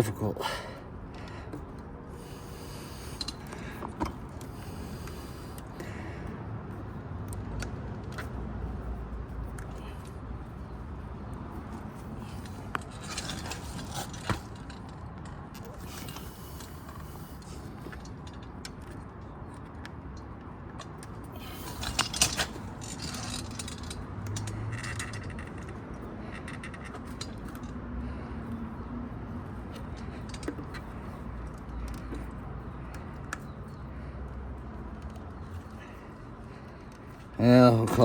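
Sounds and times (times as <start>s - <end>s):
small clicks and scrapes: 6.7s - 37.3s.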